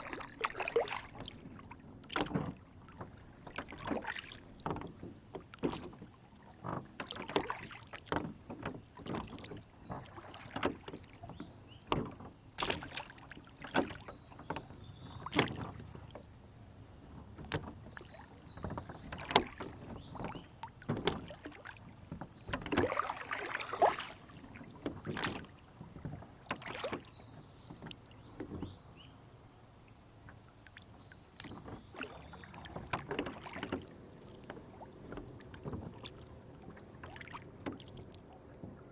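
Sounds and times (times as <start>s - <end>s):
boat and oars knocking: 0.0s - 38.9s
water lapping against hull: 0.0s - 38.9s.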